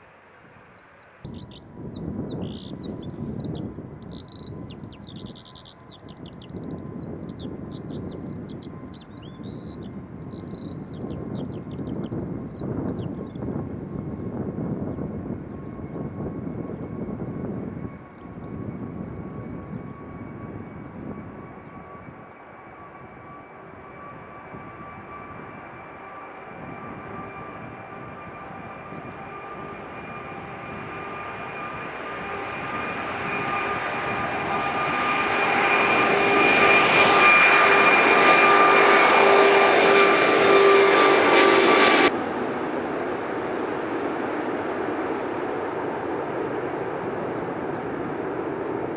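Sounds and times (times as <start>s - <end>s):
jet engines at takeoff power: 0.0s - 48.9s.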